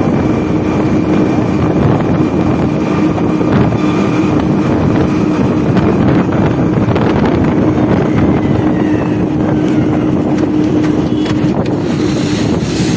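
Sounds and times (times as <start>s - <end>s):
motorcycle engine running: 0.0s - 12.9s
wind noise on microphone: 0.0s - 12.9s.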